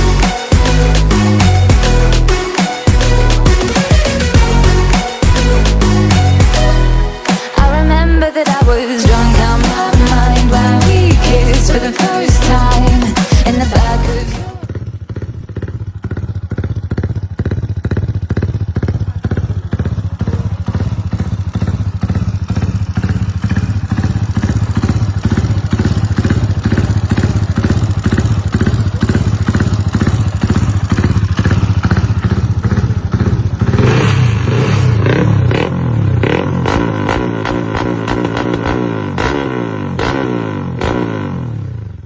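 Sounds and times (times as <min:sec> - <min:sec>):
motorcycle engine idling: 0:00.0 - 0:07.0, 0:08.6 - 0:42.0.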